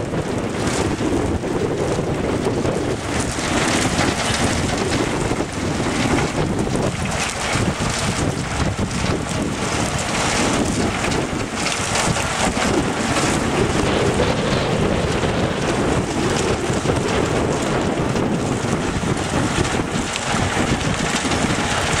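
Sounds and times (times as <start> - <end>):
machinery motors and conveyors running: 0.0 - 22.0
water gushing: 0.0 - 22.0
wind buffeting microphone: 0.0 - 22.0.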